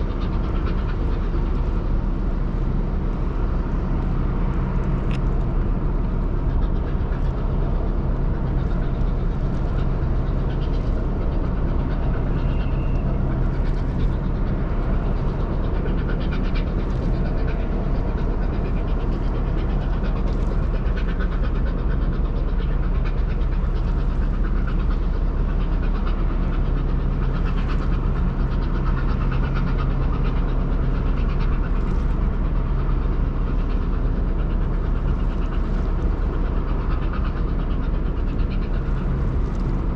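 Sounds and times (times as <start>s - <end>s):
low ship engine drone: 0.0s - 39.9s.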